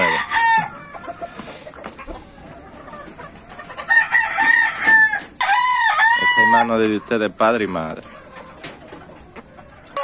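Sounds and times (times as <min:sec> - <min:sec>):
roosters crowing: 0:00.0 - 0:10.0.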